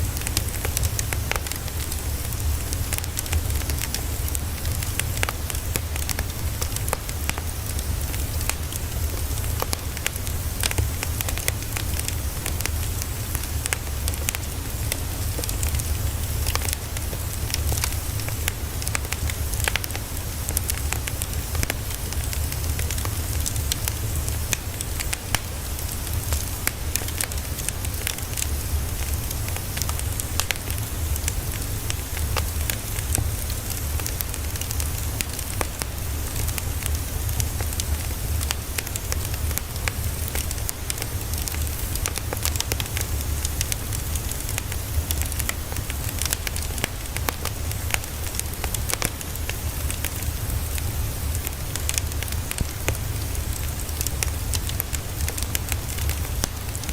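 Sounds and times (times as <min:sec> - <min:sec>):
dense crackling and hiss: 0:00.0 - 0:56.9.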